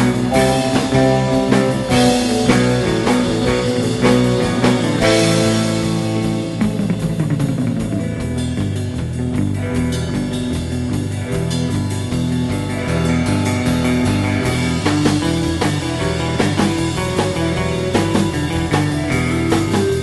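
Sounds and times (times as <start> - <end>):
bass guitar: 0.0 - 20.0
drum kit: 0.0 - 20.0
surf rock electric guitar: 0.0 - 20.0.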